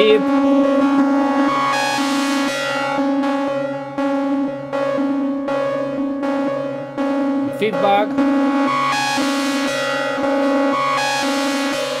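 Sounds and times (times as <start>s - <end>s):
synthesizer chord with chorus effect: 0.0s - 12.0s.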